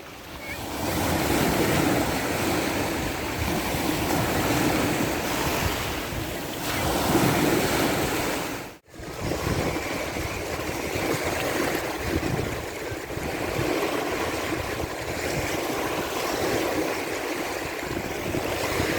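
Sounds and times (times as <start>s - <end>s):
sea waves washing onto beach: 0.0s - 18.9s
wind buffeting microphone: 0.4s - 18.9s.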